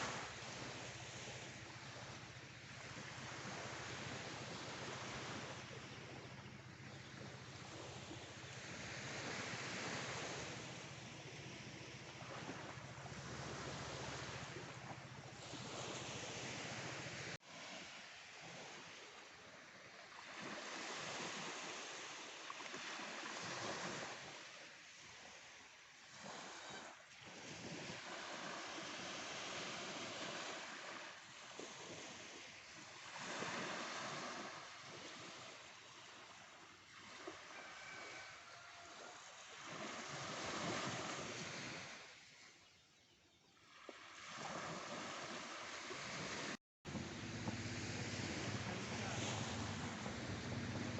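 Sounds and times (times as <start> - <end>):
waves washing onto beach: 0.0 - 42.6, 43.6 - 50.9.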